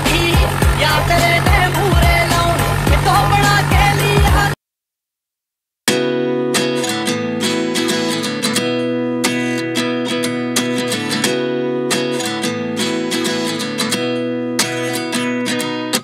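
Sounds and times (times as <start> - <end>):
strummed guitar music: 0.0 - 4.6, 5.9 - 16.0.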